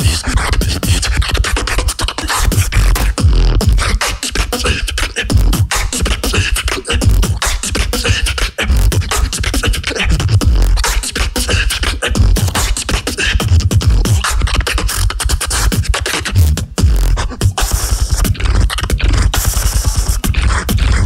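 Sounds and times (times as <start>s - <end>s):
person beatboxing: 0.0s - 21.0s.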